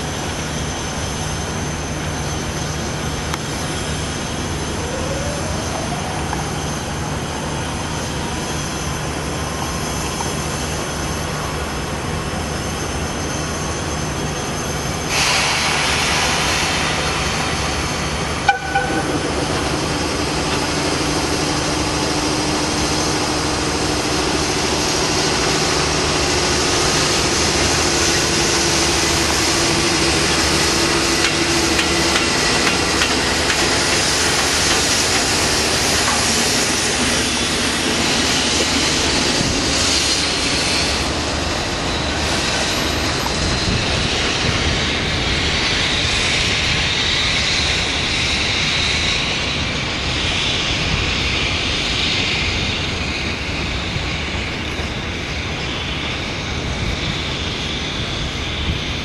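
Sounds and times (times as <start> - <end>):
electric locomotive hiss and hum: 0.0 - 59.0
low steady drone: 0.0 - 59.0.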